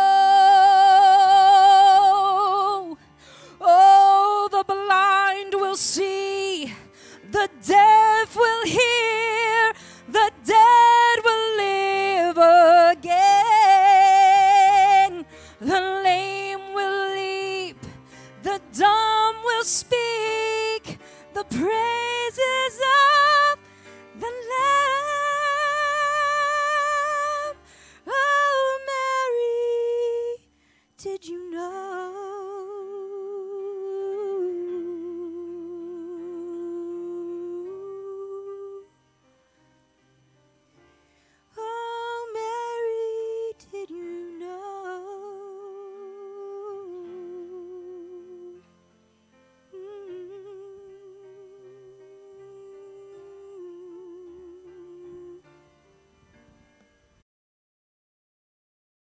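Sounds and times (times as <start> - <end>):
woman singing wordless notes: 0.0 - 39.0, 41.5 - 48.7, 49.7 - 55.6.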